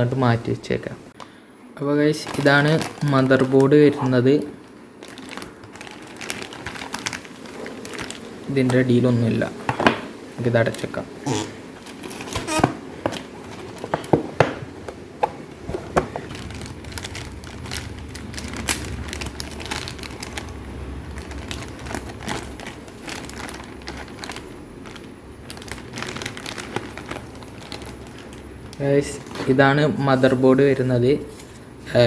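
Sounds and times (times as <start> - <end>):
packaging crinkling and rustling: 2.0 - 32.0.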